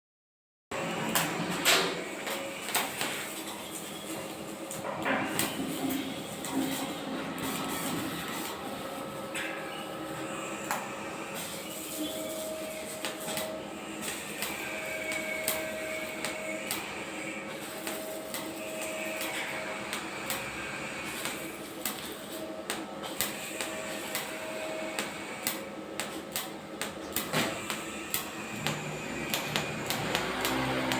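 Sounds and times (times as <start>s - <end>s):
welding arc hissing and crackling: 0.8s - 30.9s.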